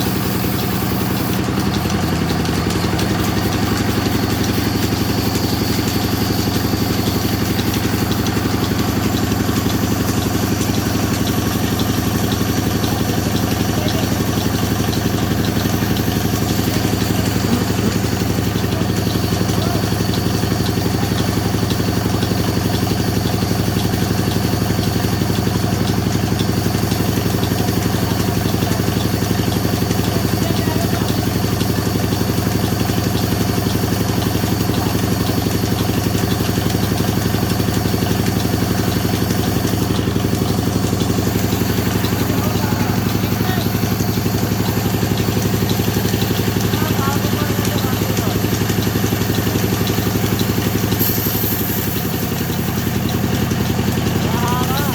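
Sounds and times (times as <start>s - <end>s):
sawmill machine humming: 0.0s - 54.9s.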